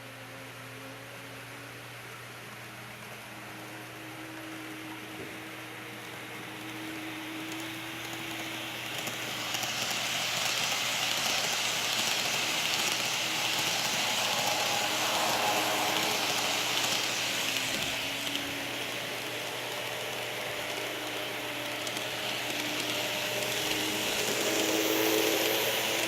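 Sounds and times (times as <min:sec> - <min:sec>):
model electric train running: 0:00.0 - 0:26.0.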